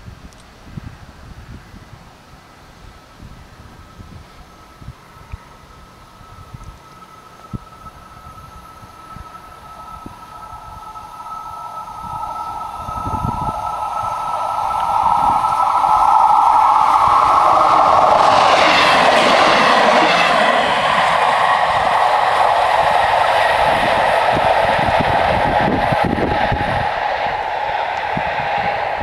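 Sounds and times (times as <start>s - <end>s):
passenger train passing: 0.6s - 29.0s.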